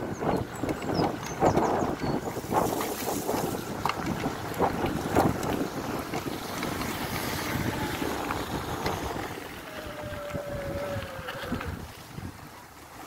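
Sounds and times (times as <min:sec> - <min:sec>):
bike rattling over bumps: 0:00.0 - 0:13.0
bike tyres rumbling on gravel: 0:00.0 - 0:13.0
faint hub motor whine: 0:00.0 - 0:13.0
wind buffeting microphone: 0:00.0 - 0:13.0.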